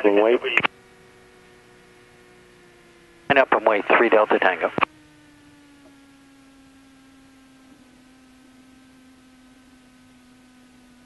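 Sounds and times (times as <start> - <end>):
aircraft engine idling: 0.0 - 11.0
faint steady hum with overtones: 0.0 - 11.0.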